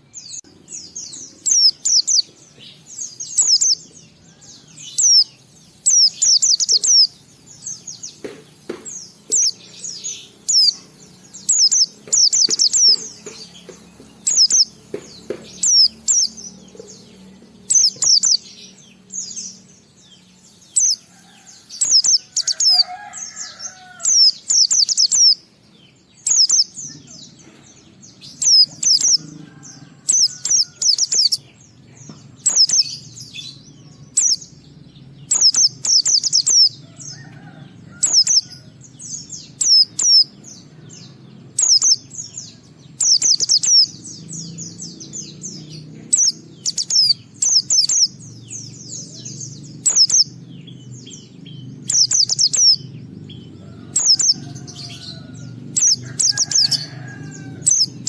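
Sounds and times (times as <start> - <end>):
bird twittering: 0.0 - 25.5, 26.2 - 31.6, 32.2 - 40.4, 41.5 - 58.0.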